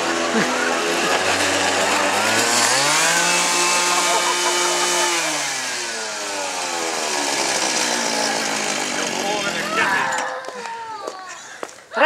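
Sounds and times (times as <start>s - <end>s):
small petrol engine revving: 0.0s - 10.3s.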